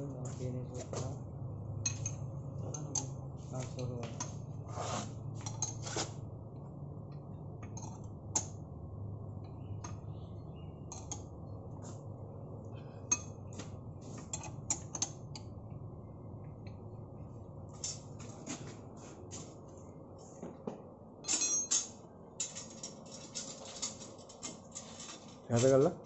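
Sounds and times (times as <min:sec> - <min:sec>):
compressor humming: 0:00.0 - 0:26.0.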